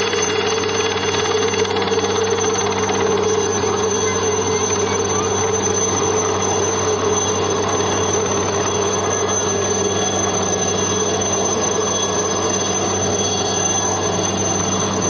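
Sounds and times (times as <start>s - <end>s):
helicopter hovering drone and whine: 0.0s - 15.0s.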